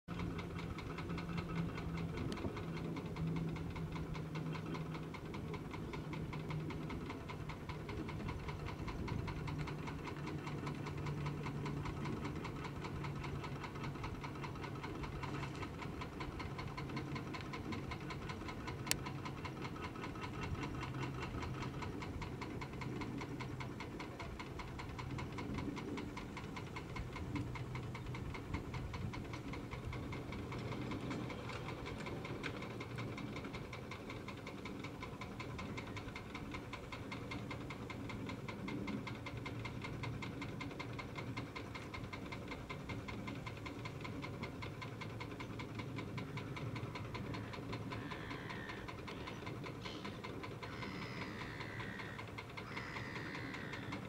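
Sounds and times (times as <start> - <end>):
boat engine running: 0.1 - 54.0.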